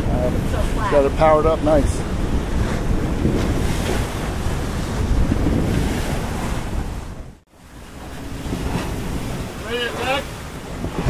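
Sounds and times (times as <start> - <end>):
waves rushing and splashing: 0.0 - 11.0
wind buffeting microphone: 0.0 - 11.0.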